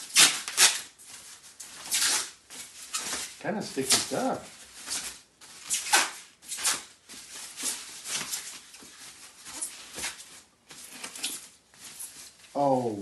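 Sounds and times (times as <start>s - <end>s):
packing wrap rustling: 0.0s - 13.0s.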